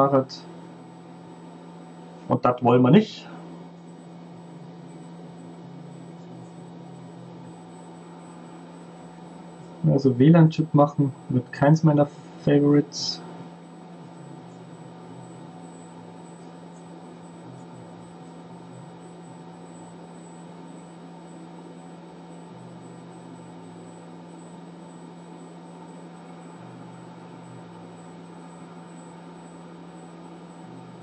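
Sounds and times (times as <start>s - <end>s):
constant low hum: 0.0s - 31.0s.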